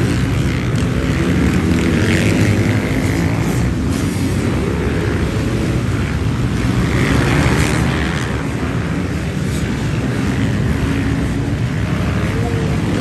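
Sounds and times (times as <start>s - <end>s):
dirt bikes revving past: 0.0s - 13.0s.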